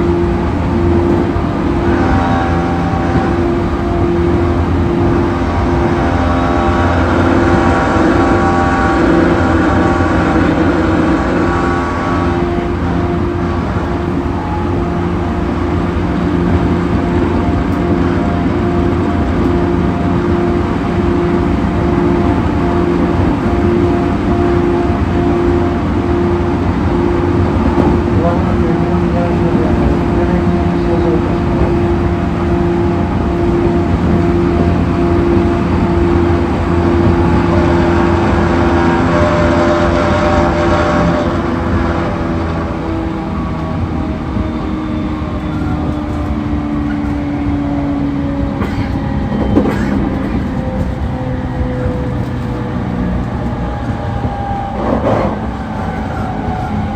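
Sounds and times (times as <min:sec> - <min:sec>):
steady humming tone: 0:00.0 - 0:56.9
train wheels rumbling on rail: 0:00.0 - 0:56.9.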